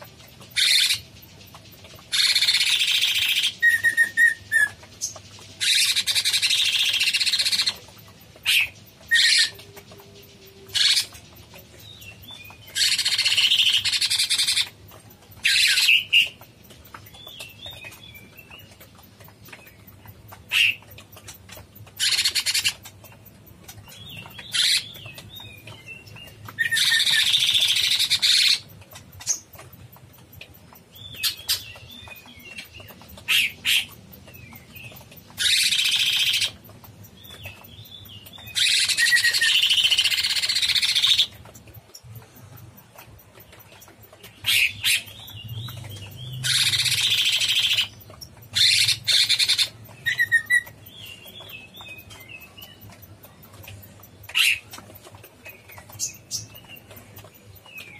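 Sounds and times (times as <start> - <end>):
bird warbled chirping: 0.0 - 57.9.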